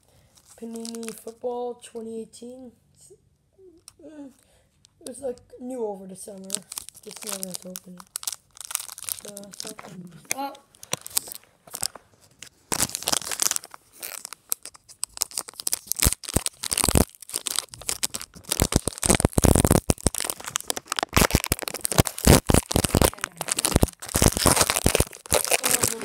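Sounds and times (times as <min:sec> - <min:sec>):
wrapper being torn and crinkled: 0:00.0 - 0:01.4, 0:06.3 - 0:26.0.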